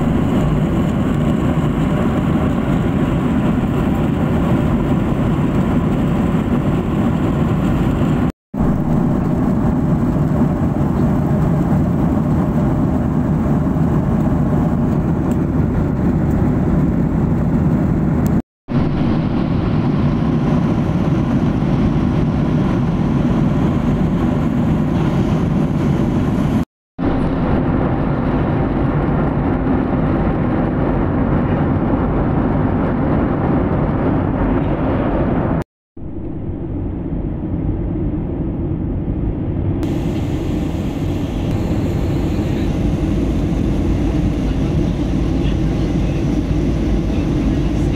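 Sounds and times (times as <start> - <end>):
airliner cabin noise: 0.0 - 47.9.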